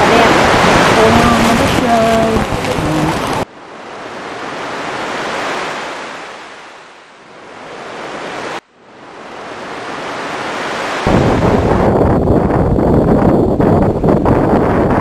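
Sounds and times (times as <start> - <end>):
ocean surf washing in: 0.0 - 12.2.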